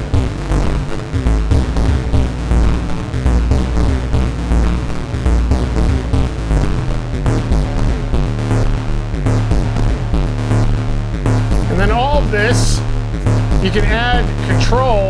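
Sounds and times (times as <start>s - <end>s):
pulsing low synthesizer notes: 0.0s - 15.0s.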